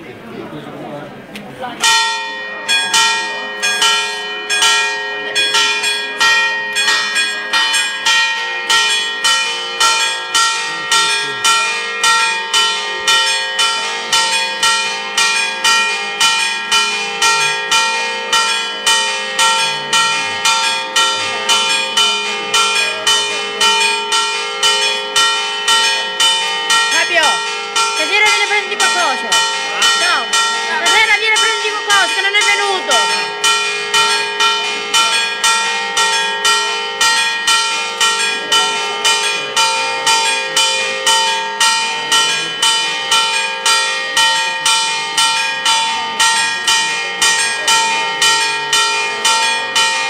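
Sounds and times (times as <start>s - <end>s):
church bells pealing: 1.8s - 50.0s
lower bell ringing: 1.8s - 50.0s.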